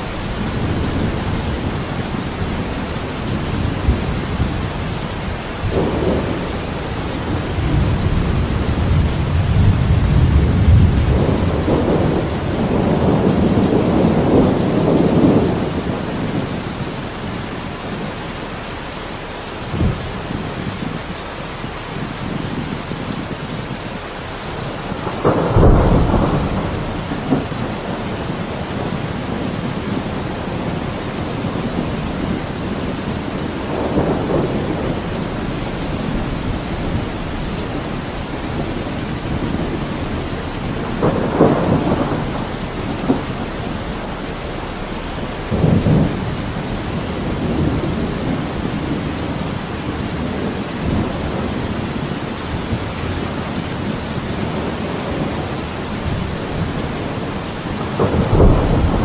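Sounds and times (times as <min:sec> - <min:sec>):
heavy rain: 0:00.0 - 0:59.0
thunder rumbling: 0:00.0 - 0:59.0.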